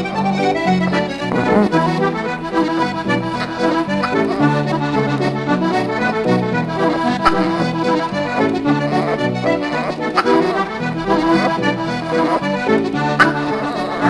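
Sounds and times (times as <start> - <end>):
background music with held notes: 0.0 - 14.0.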